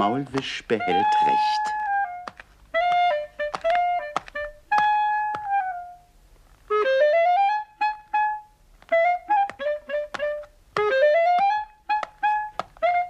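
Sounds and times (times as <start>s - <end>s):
woodwind melody: 0.0s - 13.0s.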